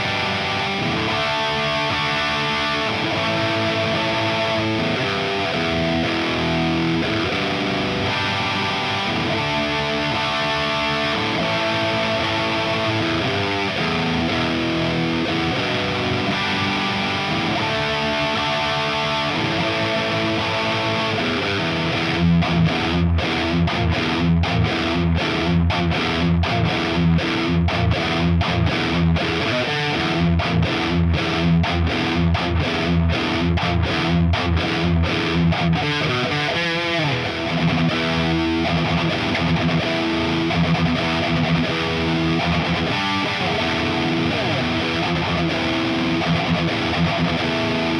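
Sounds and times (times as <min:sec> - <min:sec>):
distorted electric guitar: 0:00.0 - 0:47.9.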